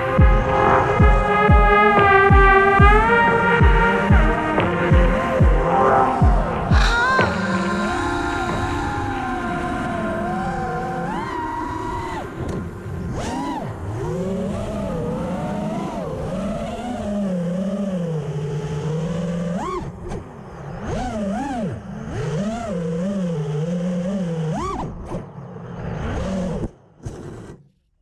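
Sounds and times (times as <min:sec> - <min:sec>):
drone motors whining: 0:00.0 - 0:27.7.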